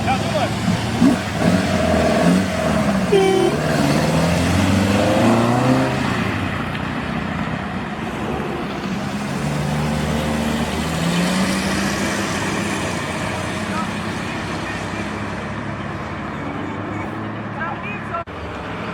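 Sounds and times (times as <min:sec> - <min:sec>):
car engines accelerating: 0:00.0 - 0:18.9
road noise: 0:00.0 - 0:18.9.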